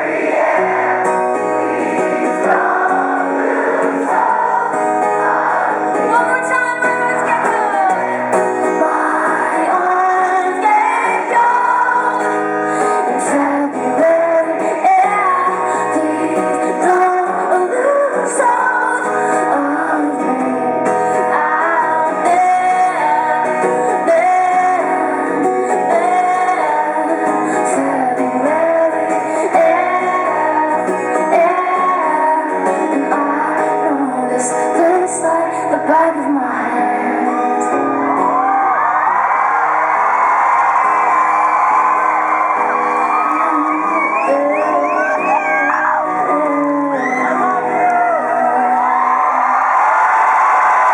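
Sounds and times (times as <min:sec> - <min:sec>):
acoustic guitar: 0:00.0 - 0:50.9
woman singing: 0:02.0 - 0:37.8, 0:43.2 - 0:49.6.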